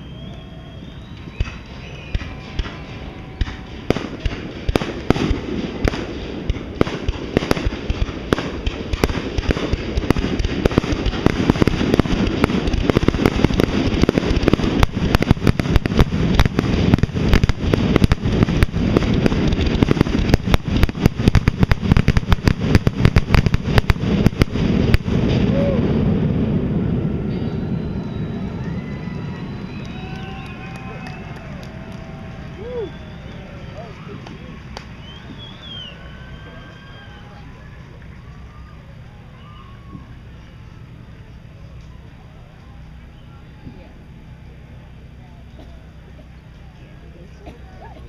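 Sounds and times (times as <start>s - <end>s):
fireworks bursting: 0.0s - 45.2s.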